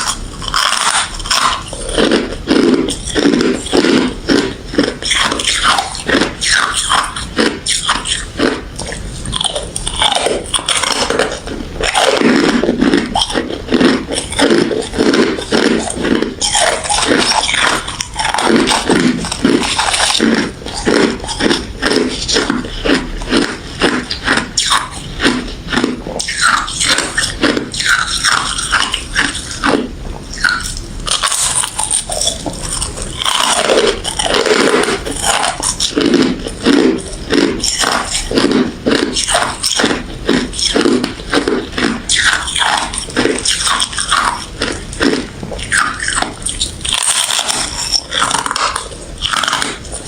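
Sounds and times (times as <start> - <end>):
ice being crunched and chewed: 0.0 - 50.0.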